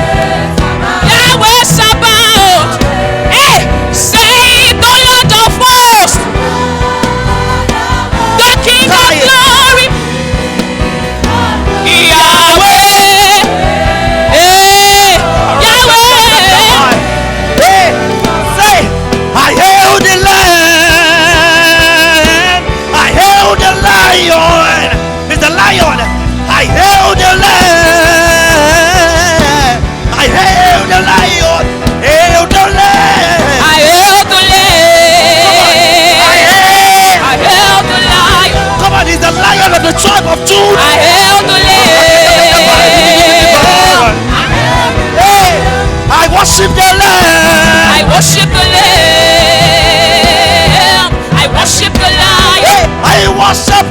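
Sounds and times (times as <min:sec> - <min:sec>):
gospel choir singing with band: 0:00.0 - 0:53.9.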